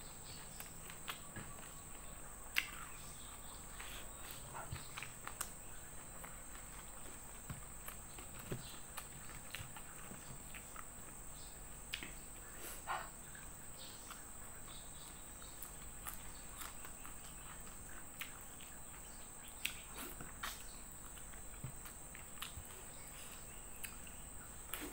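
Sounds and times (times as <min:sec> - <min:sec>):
chewing: 0:00.3 - 0:24.9.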